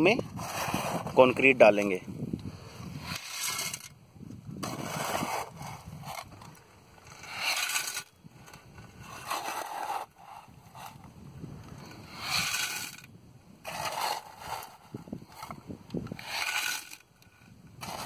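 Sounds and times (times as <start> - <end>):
trowel scraping concrete mix: 0.0 - 2.0, 2.8 - 11.0, 11.8 - 18.0.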